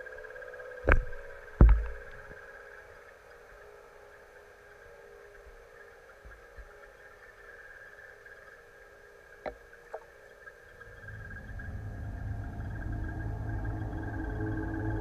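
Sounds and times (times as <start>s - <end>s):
boat motor whine underwater: 0.0s - 15.0s.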